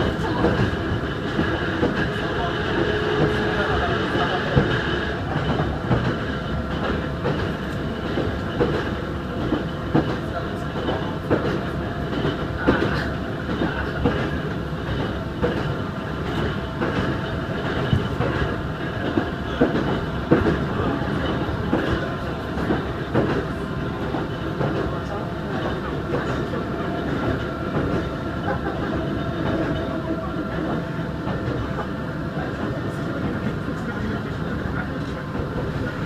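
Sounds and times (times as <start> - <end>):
train running noise: 0.0 - 36.0
wheels clacking over rail joints: 4.5 - 33.4.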